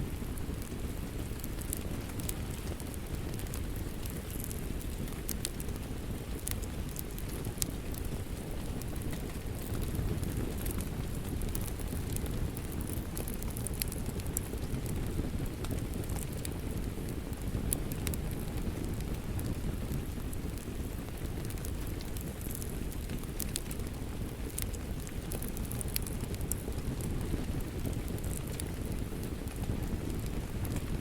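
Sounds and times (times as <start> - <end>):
steady rain: 0.0 - 31.0
wood fire crackling: 0.0 - 31.0.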